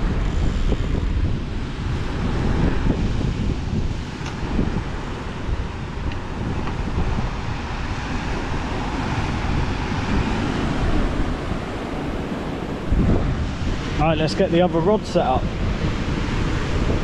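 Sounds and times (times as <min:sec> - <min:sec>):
choppy sea washing against rocks: 0:00.0 - 0:17.0
wind buffeting microphone: 0:00.0 - 0:17.0.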